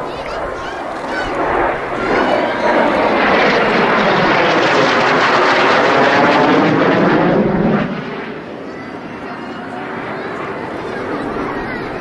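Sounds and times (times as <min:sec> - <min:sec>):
jet flyby roar: 0:00.0 - 0:12.0.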